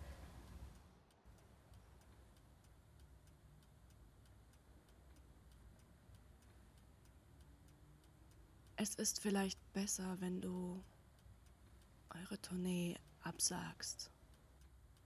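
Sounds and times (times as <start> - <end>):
faint clock ticking: 0.0 - 15.0.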